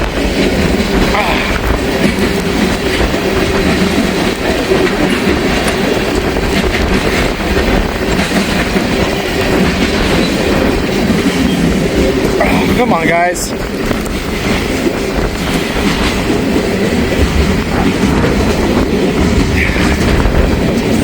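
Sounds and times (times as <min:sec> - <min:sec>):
freight train wheels clacking: 0:00.0 - 0:21.0
wind buffeting microphone: 0:00.0 - 0:21.0.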